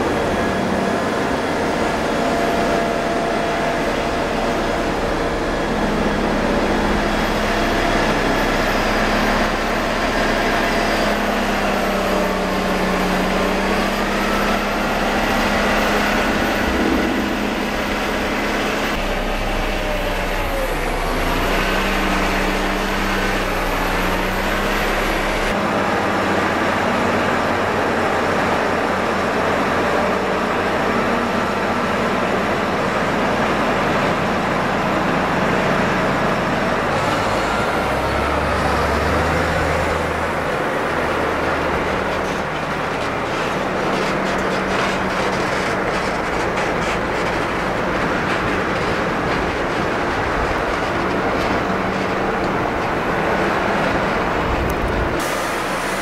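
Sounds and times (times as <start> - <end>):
diesel engines of heavy machines: 0.0 - 56.0.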